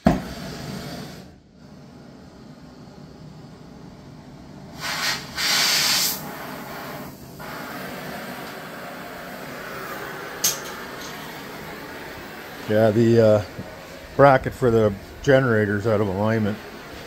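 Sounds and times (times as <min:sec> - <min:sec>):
pressurized gas hissing: 0:00.0 - 0:17.0.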